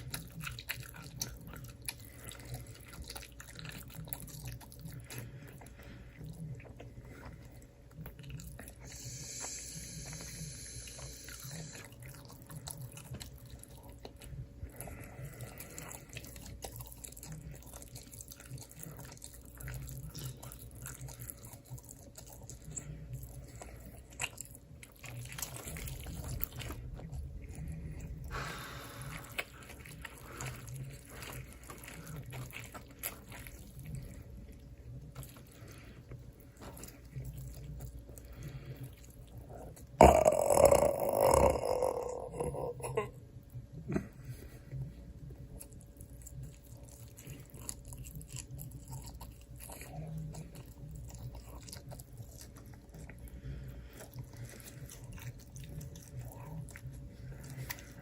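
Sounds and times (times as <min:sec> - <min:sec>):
wet chewing and mouth smacks: 0:00.0 - 0:40.2, 0:42.8 - 0:58.0.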